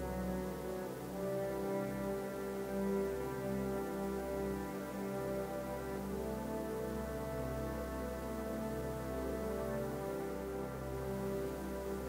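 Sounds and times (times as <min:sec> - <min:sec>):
slow sustained chords music: 0:00.0 - 0:12.0.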